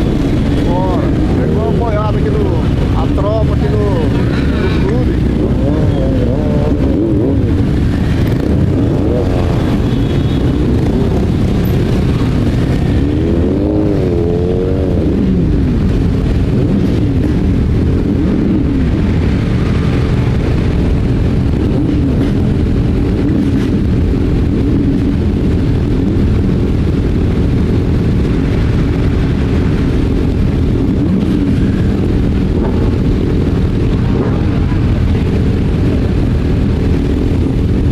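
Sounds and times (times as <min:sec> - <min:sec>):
motorcycle engine running: 0:00.0 - 0:37.9
wind rush on microphone: 0:00.0 - 0:37.9.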